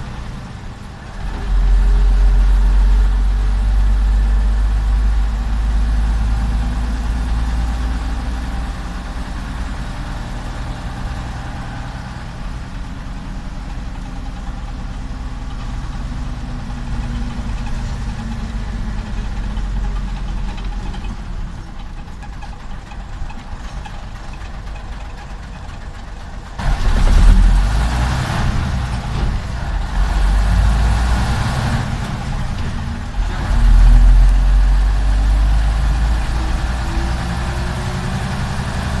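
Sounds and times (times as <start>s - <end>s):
bus diesel engine: 0.0s - 39.0s.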